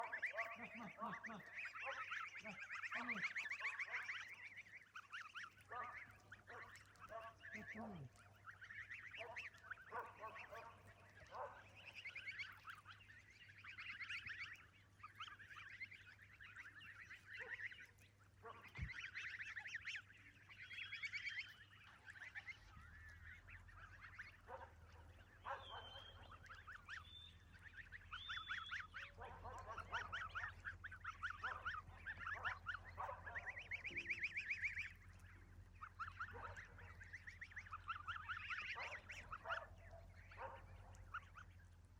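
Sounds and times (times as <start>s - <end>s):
geese calling: 0.0s - 41.9s.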